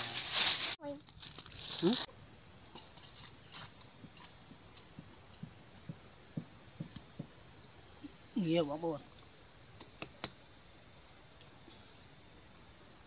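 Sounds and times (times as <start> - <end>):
insects droning: 0.8 - 13.0.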